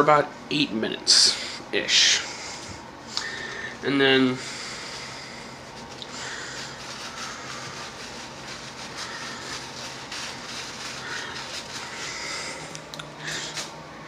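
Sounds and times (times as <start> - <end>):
motor or fan humming: 0.0 - 14.0.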